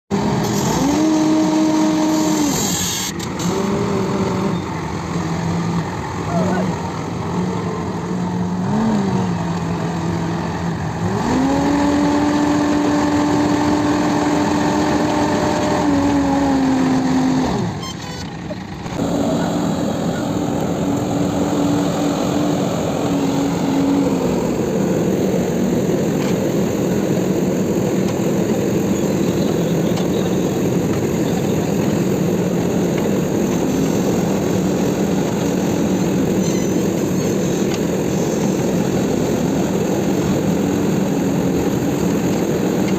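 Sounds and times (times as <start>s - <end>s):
diesel engine revving under load: 0.1s - 42.9s.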